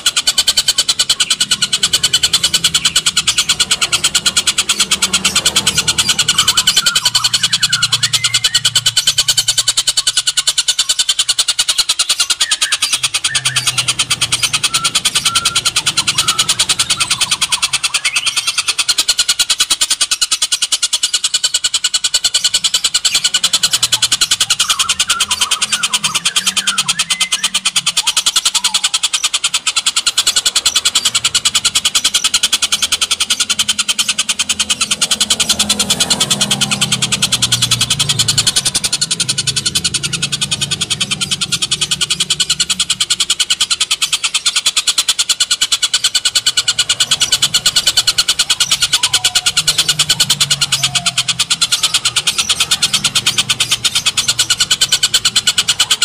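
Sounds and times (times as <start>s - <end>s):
bird harsh rattling chatter: 0.0s - 56.0s.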